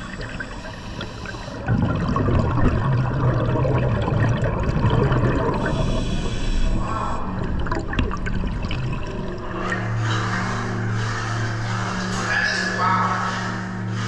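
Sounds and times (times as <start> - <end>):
crackling splashes: 0.0 - 14.0
steady low hum: 0.0 - 14.0
water rushing and sloshing: 0.0 - 14.0.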